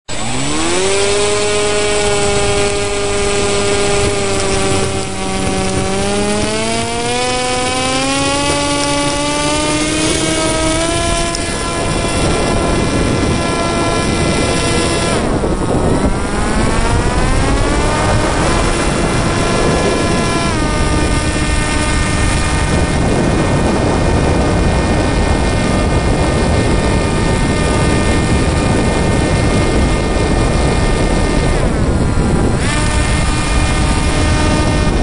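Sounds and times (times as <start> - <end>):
model plane motor whining: 0.1 - 35.0.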